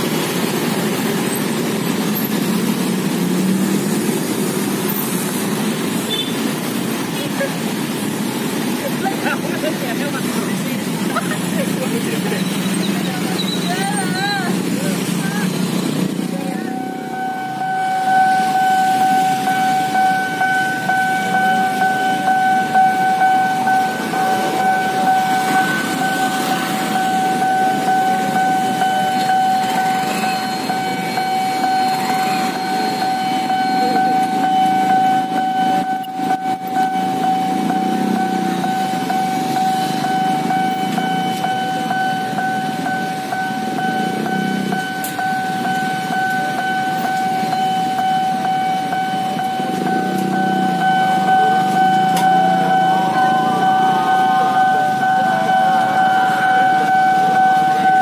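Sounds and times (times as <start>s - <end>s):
level crossing electronic alarm tone: 0.0s - 58.0s
motorcycle and car engines idling: 0.0s - 58.0s.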